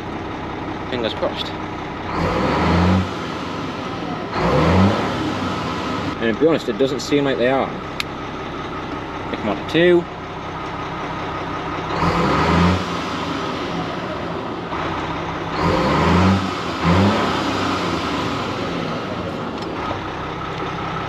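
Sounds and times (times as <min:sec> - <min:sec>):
diesel lorry engine idling and revving: 0:00.0 - 0:21.0.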